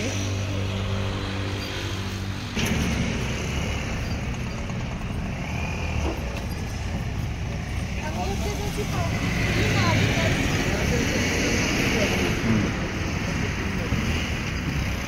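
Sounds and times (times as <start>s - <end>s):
motor vehicle engine running: 0.0s - 15.0s
passing traffic: 0.0s - 15.0s.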